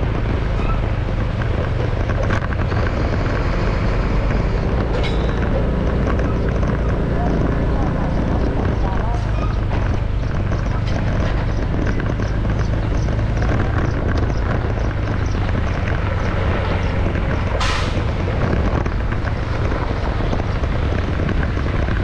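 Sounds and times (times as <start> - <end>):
vehicle road noise: 0.0 - 22.0
wind on microphone: 0.0 - 22.0.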